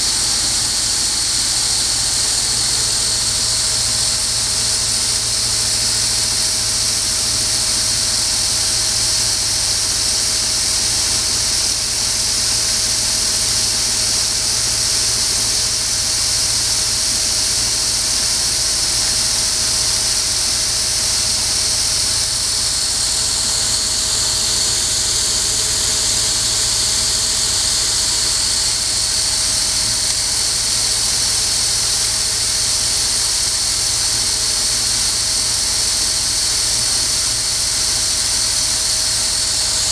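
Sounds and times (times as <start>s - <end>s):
low machine hum: 0.0s - 39.9s
machine high-pitched whir: 0.0s - 39.9s.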